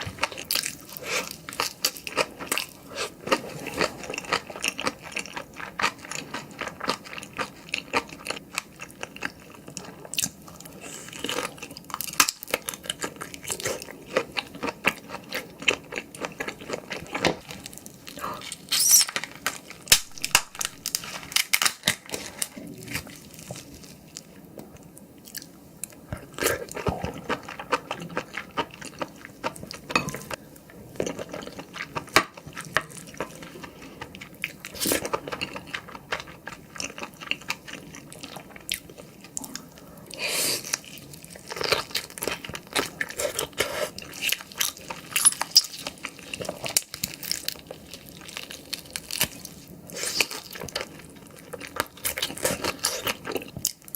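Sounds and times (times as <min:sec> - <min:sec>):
chewing raw shrimp: 0:00.0 - 0:24.3, 0:25.2 - 0:53.9.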